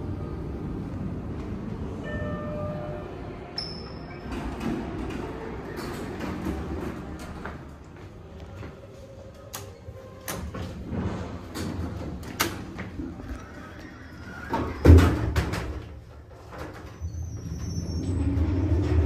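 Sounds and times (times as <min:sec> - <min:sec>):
elevator doors sliding: 0:00.0 - 0:19.0
steady background noise: 0:00.0 - 0:19.0.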